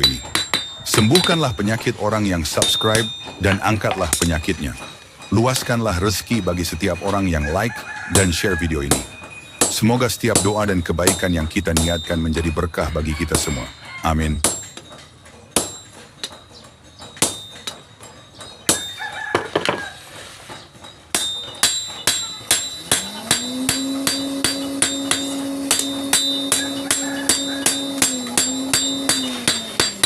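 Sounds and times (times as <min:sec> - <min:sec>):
hammer striking steel: 0:00.0 - 0:07.1, 0:08.2 - 0:12.6, 0:14.3 - 0:19.2, 0:20.8 - 0:30.0.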